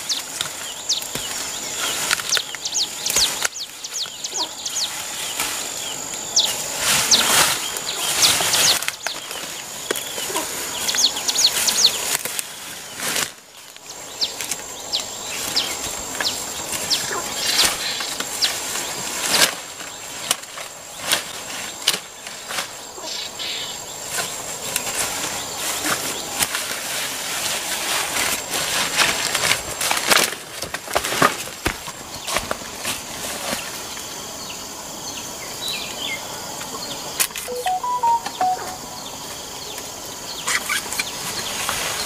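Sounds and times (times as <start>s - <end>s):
leafy undergrowth rustling: 0.0s - 34.4s.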